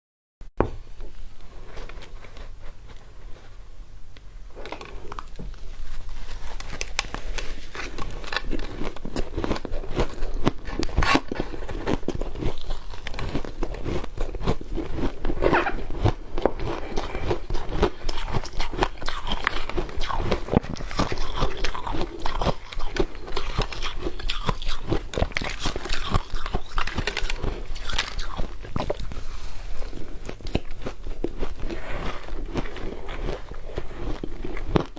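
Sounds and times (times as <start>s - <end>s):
frost being chewed: 1.6s - 34.9s.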